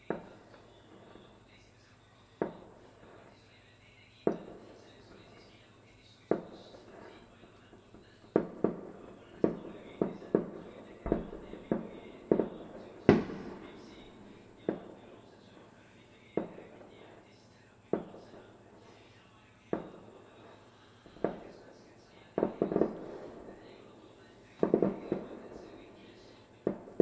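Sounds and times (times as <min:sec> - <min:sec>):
firework shells bursting: 0:00.0 - 0:03.6, 0:04.3 - 0:27.0
rolling echo: 0:00.0 - 0:05.7, 0:06.3 - 0:27.0.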